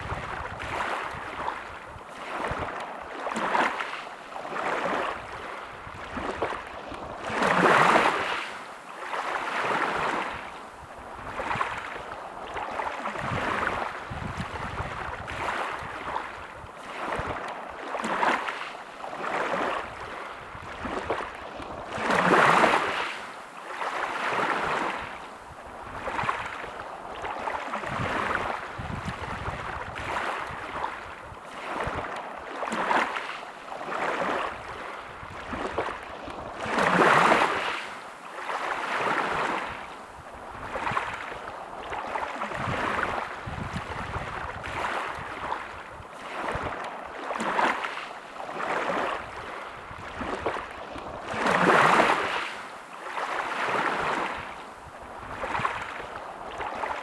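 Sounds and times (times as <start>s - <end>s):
sea waves washing onto beach: 0.0s - 57.0s.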